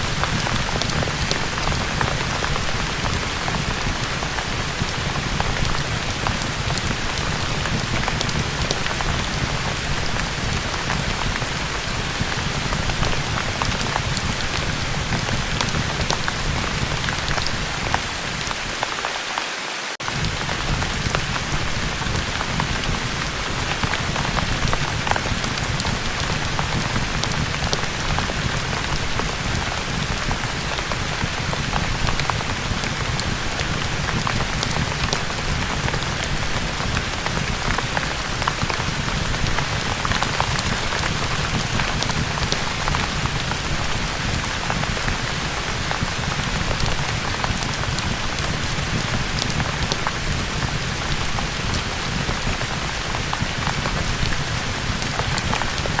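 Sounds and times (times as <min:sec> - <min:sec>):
raindrops ticking: 0:00.0 - 0:19.0, 0:20.0 - 0:56.0
heavy rain: 0:00.0 - 0:56.0.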